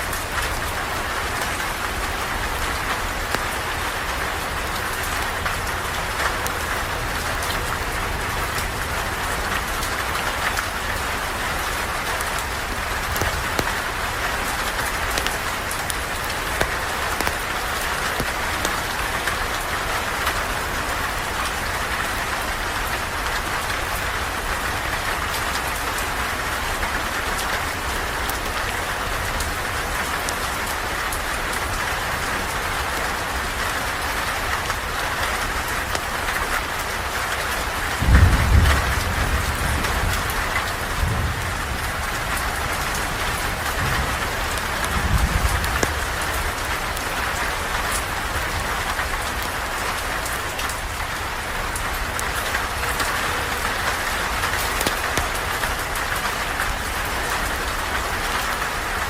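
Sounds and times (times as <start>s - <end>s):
raindrops tapping: 0.0s - 59.0s
steady rain hiss: 0.0s - 59.0s.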